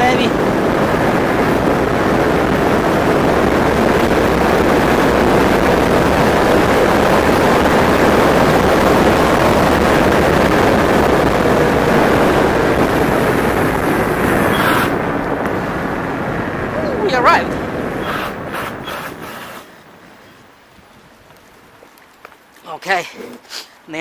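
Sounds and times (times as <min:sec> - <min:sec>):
wind rushing over microphone: 0:00.0 - 0:22.5.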